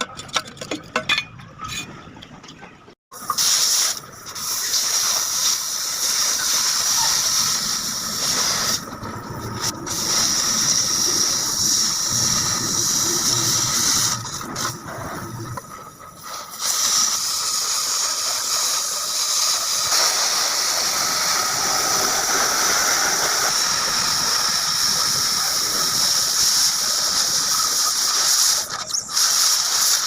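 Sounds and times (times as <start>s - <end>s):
gas cutting torch hissing: 3.2s - 30.0s.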